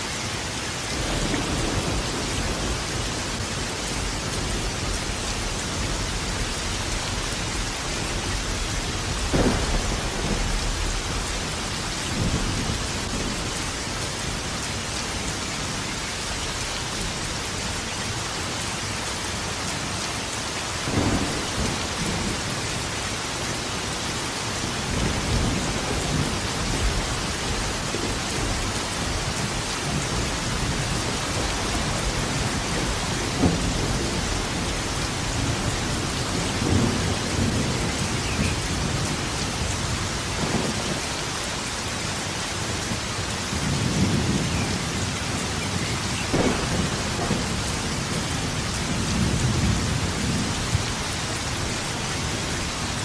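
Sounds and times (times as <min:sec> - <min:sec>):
thunder rumbling: 0:00.0 - 0:16.1, 0:20.8 - 0:24.0, 0:24.6 - 0:41.3, 0:42.5 - 0:52.7
rain falling: 0:00.0 - 0:53.0.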